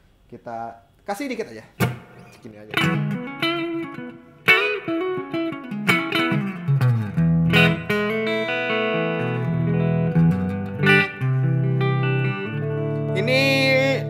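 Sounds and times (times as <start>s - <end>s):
clean electric guitar: 1.8s - 14.0s.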